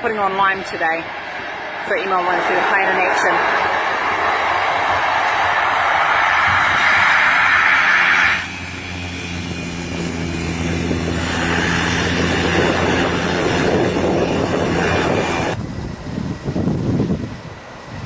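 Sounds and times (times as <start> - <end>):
propeller plane engine: 0.0 - 18.0
rushing air: 0.9 - 18.0.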